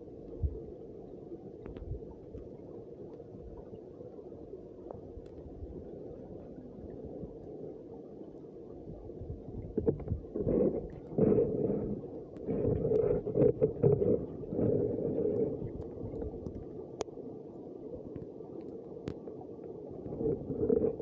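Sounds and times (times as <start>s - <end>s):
muffled low rumbling underwater: 0.0s - 21.0s.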